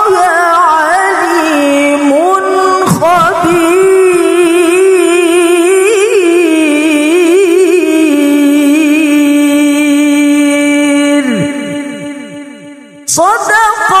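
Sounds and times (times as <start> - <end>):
woman reciting melodically: 0.0 - 14.0.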